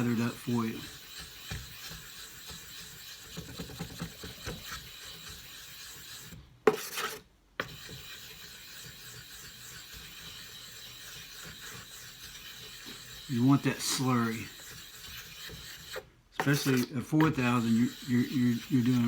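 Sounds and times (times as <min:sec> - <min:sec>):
stone scraping on wet whetstone: 0:00.0 - 0:19.0.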